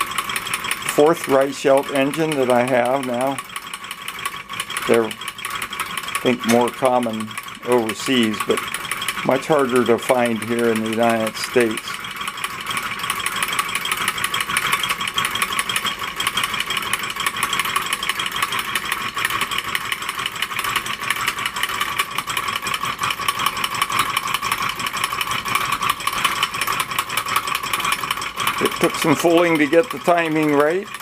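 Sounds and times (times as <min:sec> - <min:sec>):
hot air engine clattering: 0:00.0 - 0:31.0.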